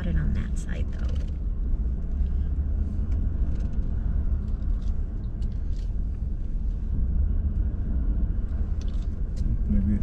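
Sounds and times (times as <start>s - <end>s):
truck rumbling from inside cab: 0.0s - 10.0s.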